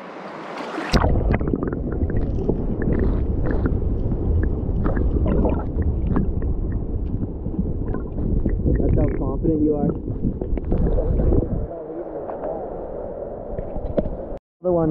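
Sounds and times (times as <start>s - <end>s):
underwater river current rumbling: 0.0s - 14.4s.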